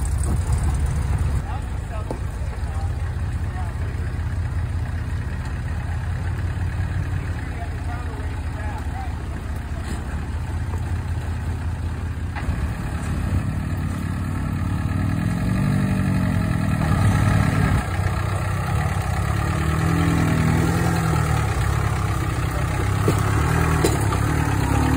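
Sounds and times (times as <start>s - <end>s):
diesel engine at low revs: 0.0s - 24.9s.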